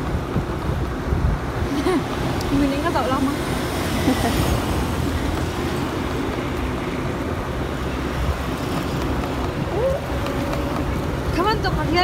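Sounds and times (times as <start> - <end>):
vehicle rumbling with road noise: 0.0 - 12.0.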